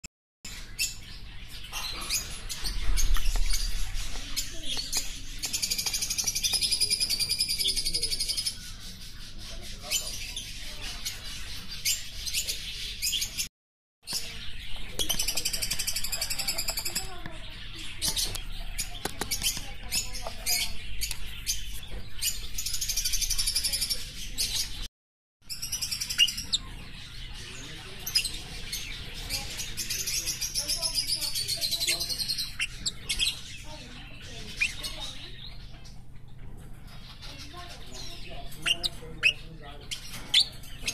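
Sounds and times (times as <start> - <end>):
cage birds chirping: 0.5 - 40.9.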